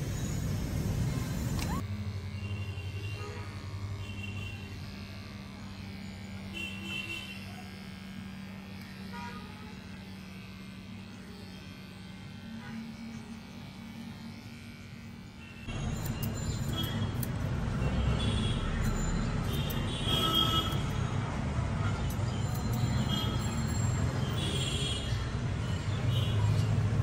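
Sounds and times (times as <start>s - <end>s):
electric pet clipper buzzing: 0.0s - 27.0s.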